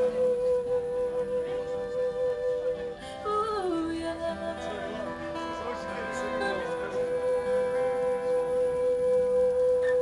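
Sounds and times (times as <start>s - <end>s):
folk singer with guitar and fiddle: 0.0s - 10.0s.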